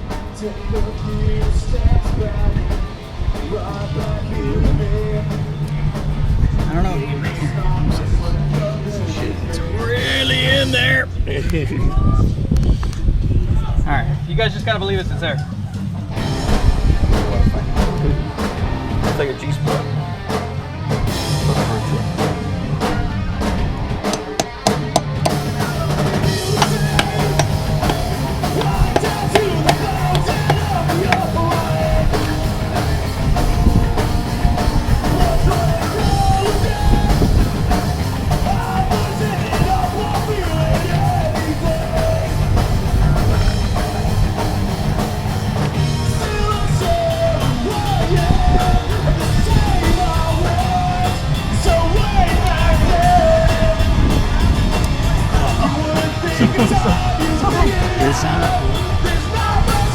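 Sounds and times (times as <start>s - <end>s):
drum kit: 0.0s - 11.0s, 16.1s - 59.9s
rock song with singing: 0.0s - 12.5s, 13.1s - 59.9s.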